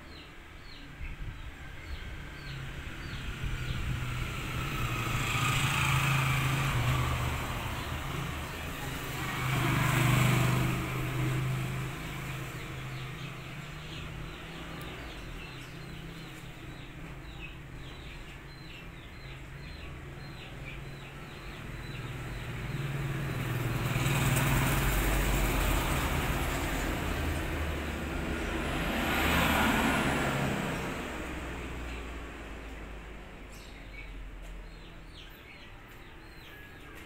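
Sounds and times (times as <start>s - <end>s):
passing road traffic: 0.0s - 37.0s.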